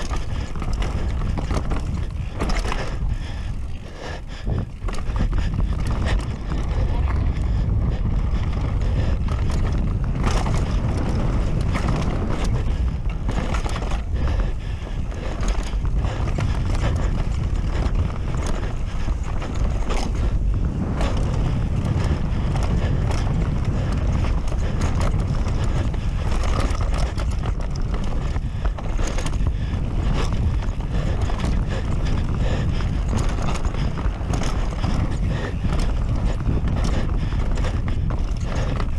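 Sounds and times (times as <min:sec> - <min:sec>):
bike rattling knocks and clicks: 0:00.0 - 0:38.9
tyre rumble: 0:00.0 - 0:38.9
wind rush on microphone: 0:00.0 - 0:38.9.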